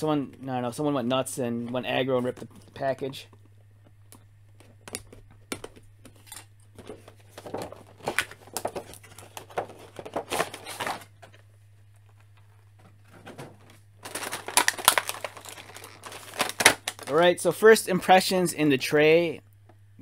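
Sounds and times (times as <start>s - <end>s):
cardboard and plastic packaging rustling: 1.0s - 17.4s.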